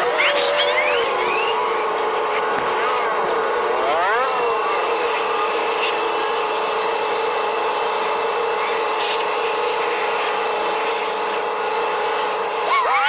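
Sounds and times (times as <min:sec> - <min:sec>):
electric blower whine: 0:00.0 - 0:13.0.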